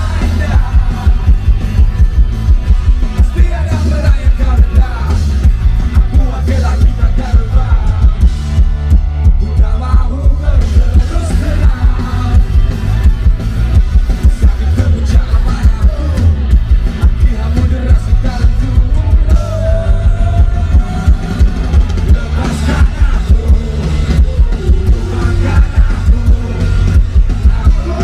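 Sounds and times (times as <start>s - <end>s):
heavy bass and drum beat: 0.0s - 28.0s
lead vocals: 0.0s - 28.0s
live rock band playing: 0.0s - 28.0s.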